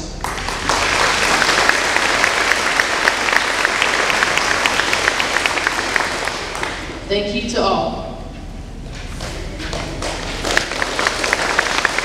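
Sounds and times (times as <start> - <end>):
audience applauding: 0.2 - 7.0, 9.2 - 12.0.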